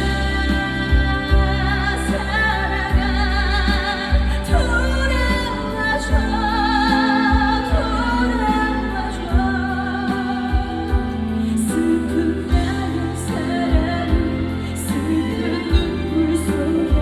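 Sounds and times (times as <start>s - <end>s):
steady drum beat: 0.0s - 15.1s
bass: 0.0s - 17.0s
woman singing with vibrato: 0.0s - 17.0s.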